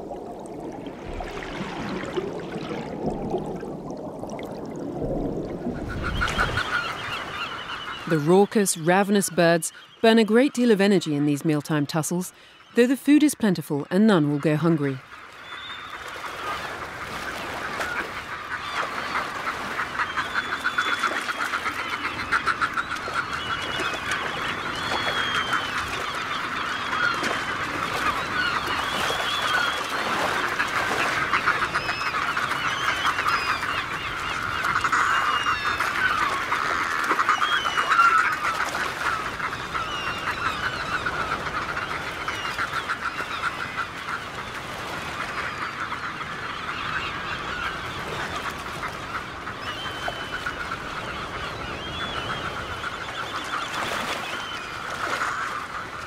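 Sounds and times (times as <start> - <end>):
seabirds cackling chatter: 5.5 - 56.0.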